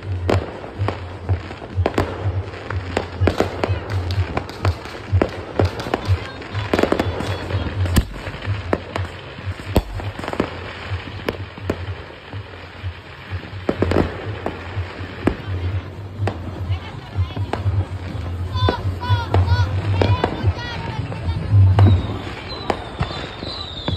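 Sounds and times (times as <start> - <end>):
firecrackers banging and popping: 0.0 - 23.9
firework crackling: 0.0 - 23.9
heavy firework booms: 0.2 - 23.9.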